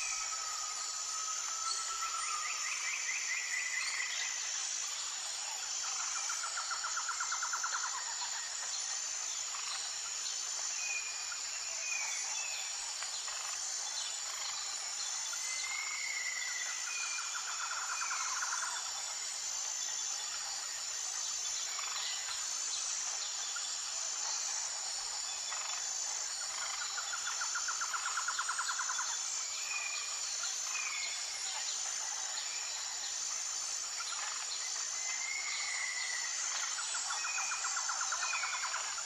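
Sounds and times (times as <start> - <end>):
high-pitched insect trill: 0.0 - 39.0.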